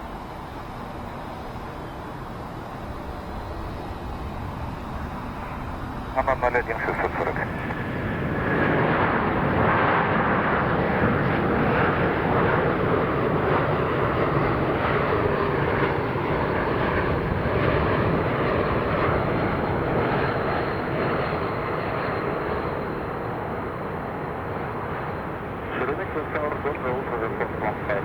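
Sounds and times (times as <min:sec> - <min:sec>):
jet engines at high power: 0:00.0 - 0:28.0.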